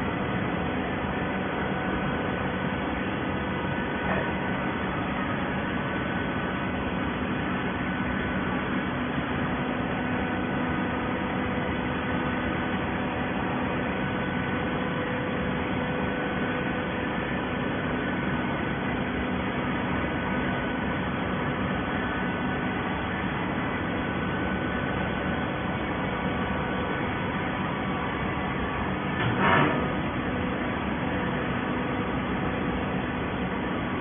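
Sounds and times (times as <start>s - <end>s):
baling machine humming: 0.0s - 34.0s.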